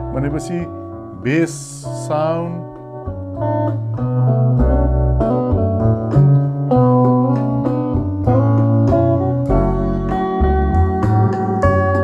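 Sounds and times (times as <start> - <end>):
song with plucked guitar and bass: 0.0 - 12.0.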